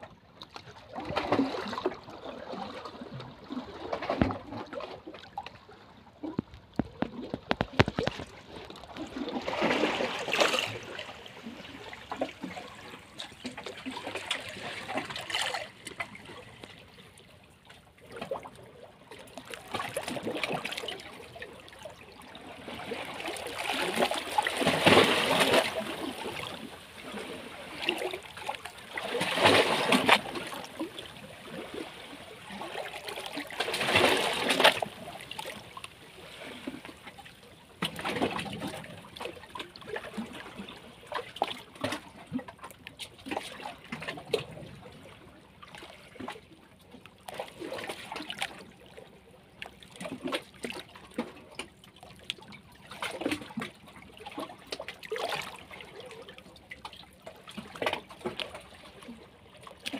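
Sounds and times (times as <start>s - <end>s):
small waves lapping and splashing: 0.0s - 59.9s.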